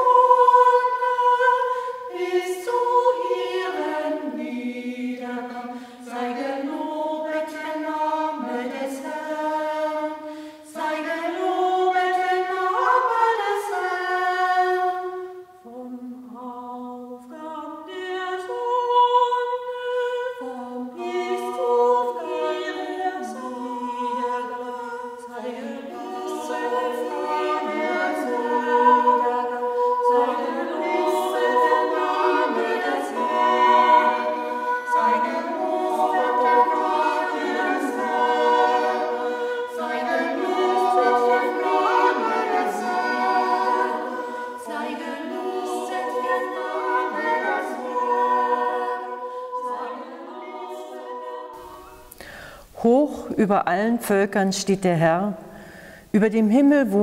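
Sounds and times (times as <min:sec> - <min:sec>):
women singing in harmony: 0:00.0 - 0:53.4.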